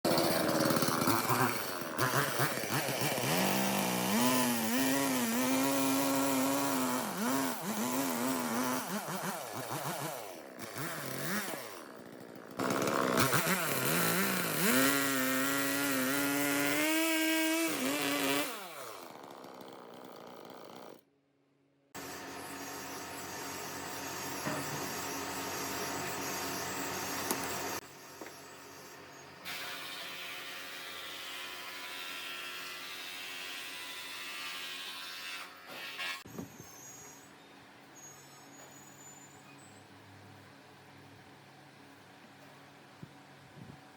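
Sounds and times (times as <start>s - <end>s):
chainsaw cutting wood: 0.1s - 21.1s, 22.0s - 36.3s.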